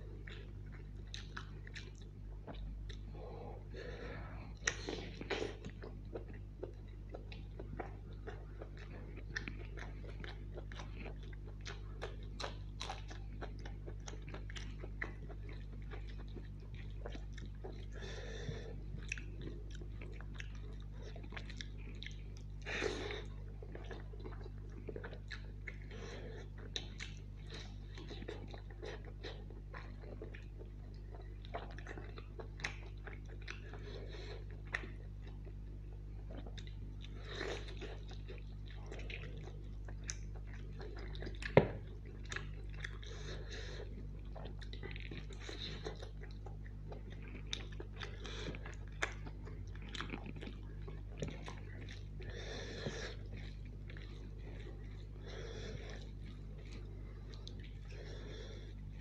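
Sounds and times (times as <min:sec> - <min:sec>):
chewing and wet mouth smacks: 0:00.0 - 0:03.2, 0:04.5 - 0:59.0.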